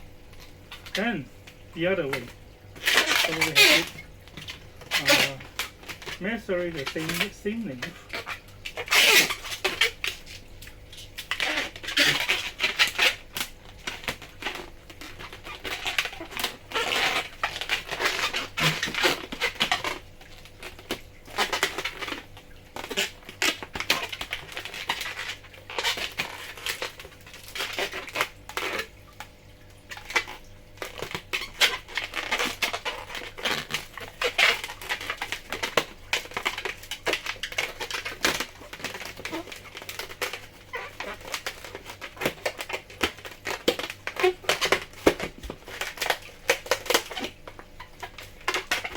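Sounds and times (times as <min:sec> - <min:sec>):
rubber balloon squeaking: 0:00.7 - 0:48.9.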